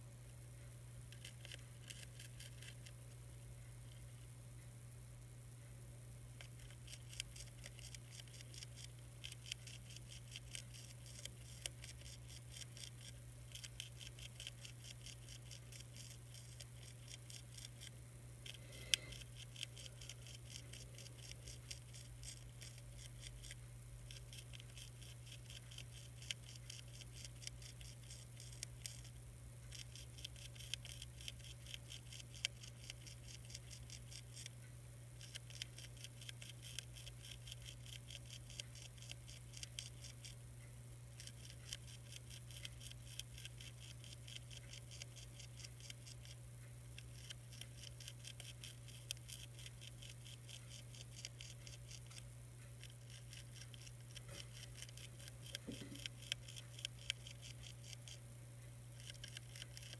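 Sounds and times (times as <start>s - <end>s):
caterpillar chewing leaf: 1.0s - 3.2s, 6.3s - 40.5s, 41.1s - 59.9s.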